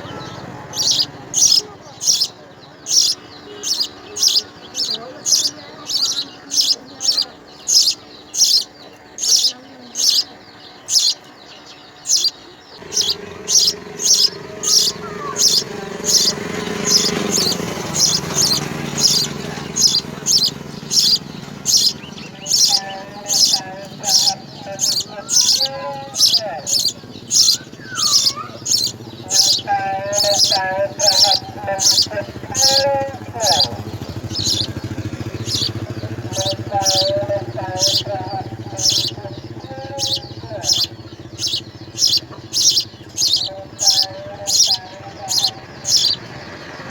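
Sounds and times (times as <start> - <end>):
low motor-like hum: 0.0 - 46.9
sparrows chirping: 0.0 - 46.9.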